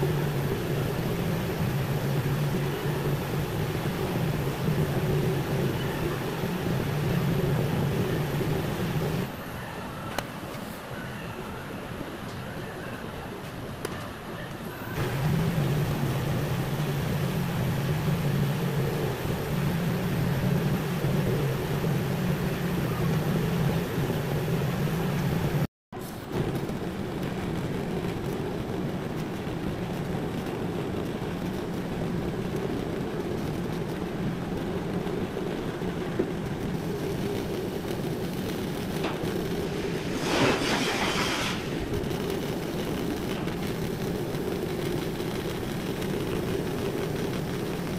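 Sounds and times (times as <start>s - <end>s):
welding arc buzzing hum: 0.0s - 9.3s, 14.8s - 47.9s.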